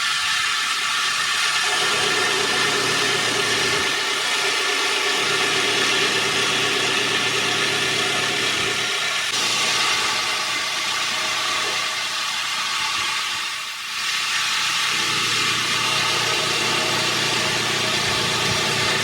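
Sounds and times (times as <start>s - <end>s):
heavy machinery engine drone: 0.0s - 19.0s.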